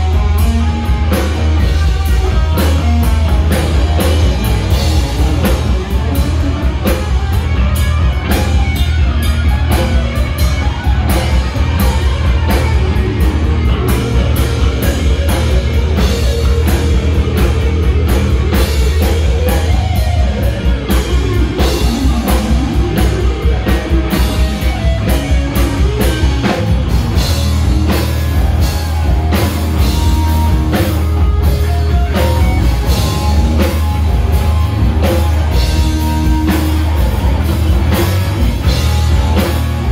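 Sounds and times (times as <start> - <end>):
drum kit beat: 0.0 - 39.9
electric bass: 0.0 - 39.9
electric guitar: 0.0 - 39.9.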